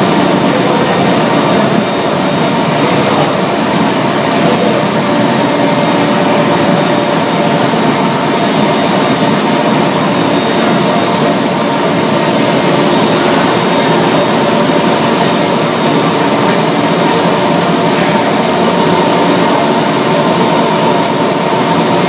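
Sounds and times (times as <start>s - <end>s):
high steady whine: 0.0s - 22.0s
machine running: 0.0s - 22.0s.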